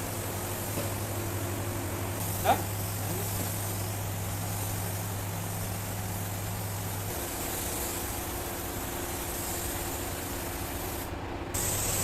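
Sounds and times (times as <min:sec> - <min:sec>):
even hiss: 0:00.0 - 0:12.0
low machine hum: 0:00.0 - 0:12.0.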